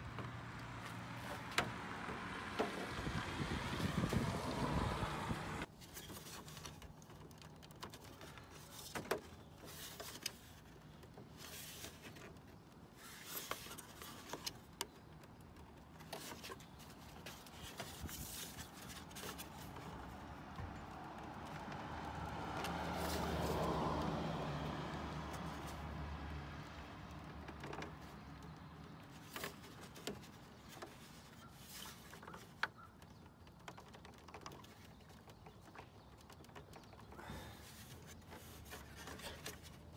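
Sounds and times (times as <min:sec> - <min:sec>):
vehicle engine hum: 0:00.0 - 0:05.7, 0:06.5 - 0:39.9.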